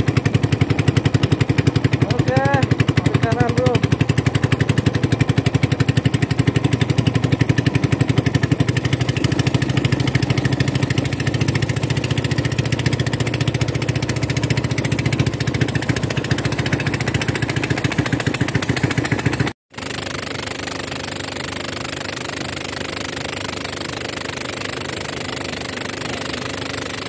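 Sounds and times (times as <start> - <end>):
boat engine putter: 0.0 - 27.0.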